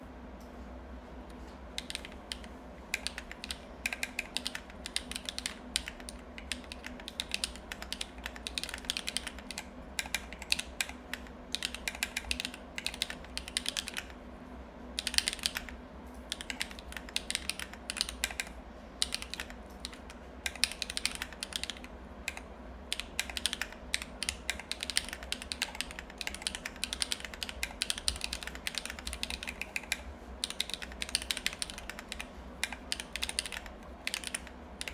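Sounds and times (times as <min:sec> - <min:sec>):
low background hum: 0:00.0 - 0:34.9
mechanical keyboard typing: 0:01.7 - 0:14.2, 0:15.0 - 0:34.9.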